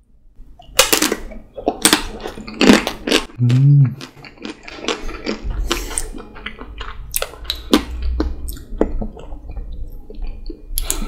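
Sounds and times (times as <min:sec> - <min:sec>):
chewing with wet mouth clicks: 0:00.6 - 0:11.0.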